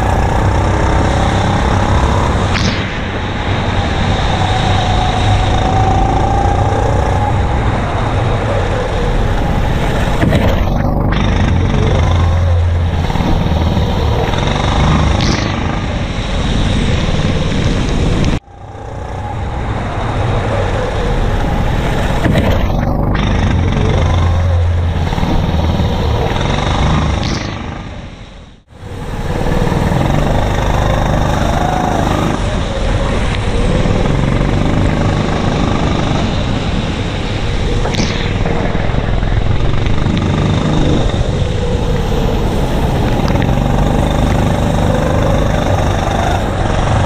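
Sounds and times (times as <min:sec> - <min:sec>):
go-kart engine revving: 0:00.0 - 0:47.0.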